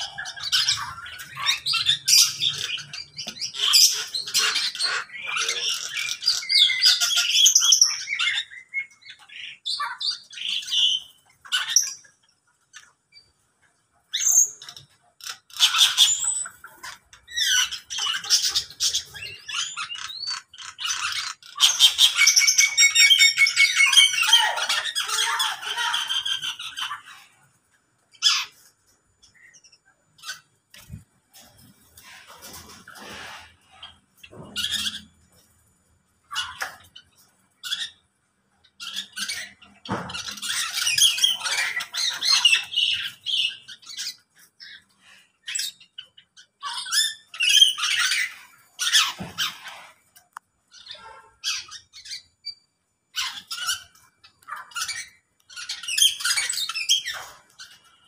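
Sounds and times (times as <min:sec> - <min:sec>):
starling squawking and whistling: 0:00.0 - 0:12.2, 0:14.1 - 0:27.4, 0:28.1 - 0:31.0, 0:32.0 - 0:35.3, 0:38.6 - 0:50.0, 0:50.7 - 0:58.0
aviary birds calling: 0:00.0 - 0:58.0.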